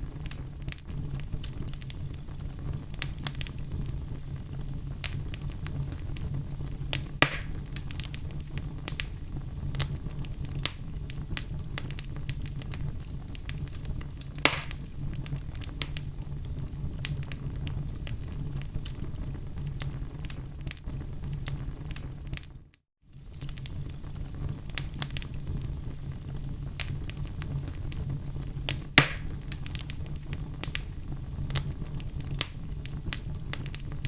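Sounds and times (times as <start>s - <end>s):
loud fire pops: 0.0s - 34.0s
wood fire crackling: 0.0s - 34.0s.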